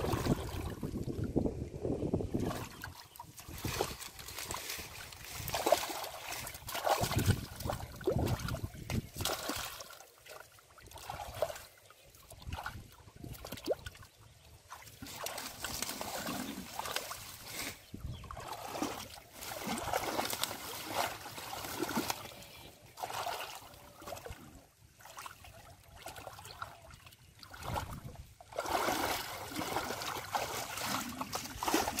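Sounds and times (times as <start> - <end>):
hands splashing in muddy water: 0.0 - 1.0, 2.3 - 14.0, 14.7 - 32.0.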